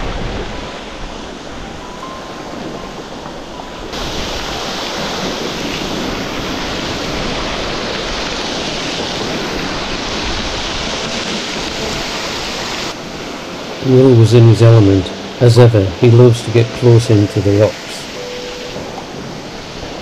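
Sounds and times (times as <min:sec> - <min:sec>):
surf churning around hull: 0:00.0 - 0:20.0
waterfall rushing onto rocks: 0:03.9 - 0:20.0.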